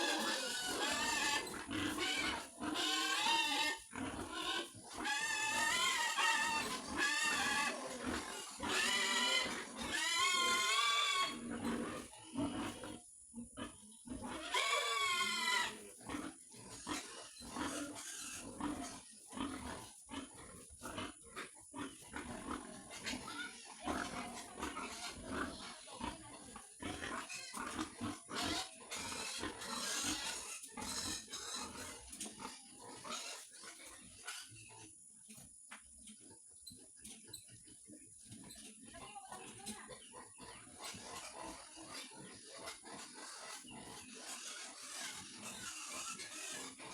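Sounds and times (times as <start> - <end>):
pigs squealing: 0.0 - 13.0, 13.6 - 34.8, 40.0 - 46.9
pigs grunting: 0.0 - 35.0, 36.1 - 46.9.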